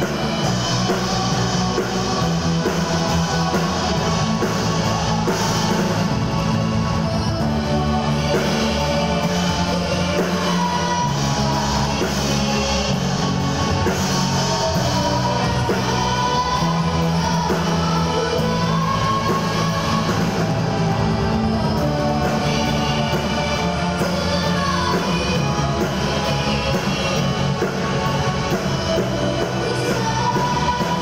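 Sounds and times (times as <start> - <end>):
live rock band: 0.0 - 31.0.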